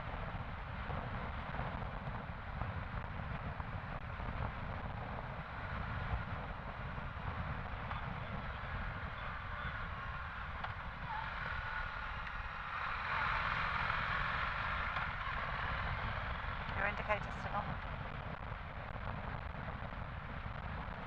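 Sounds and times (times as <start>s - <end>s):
motorcycle riding: 0.0s - 21.0s.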